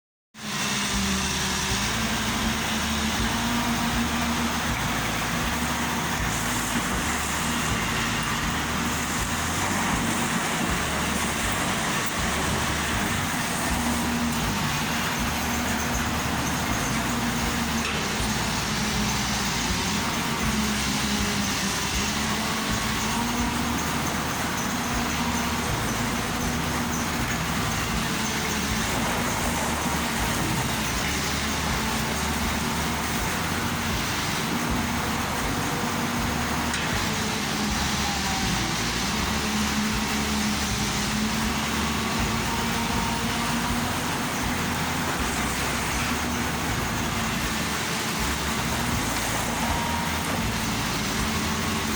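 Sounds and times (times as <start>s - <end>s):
excavator diesel engine running: 0.4s - 51.9s.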